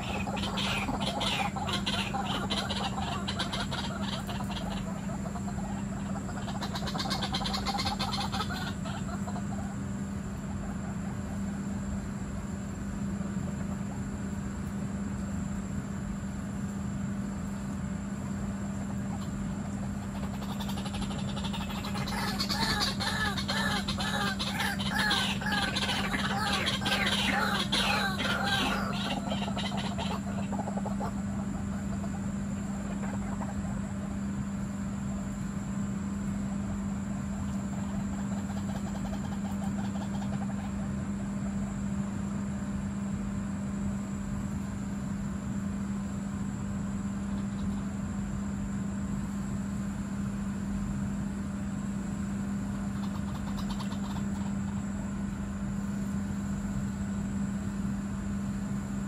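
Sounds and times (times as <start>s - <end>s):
outdoor noise: 0.0s - 59.0s
steady low hum: 0.0s - 59.0s.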